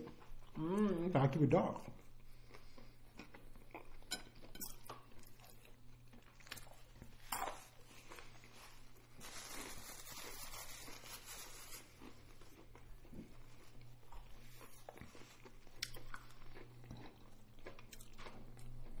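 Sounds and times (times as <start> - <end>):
chewing fried chicken: 0.0 - 19.0.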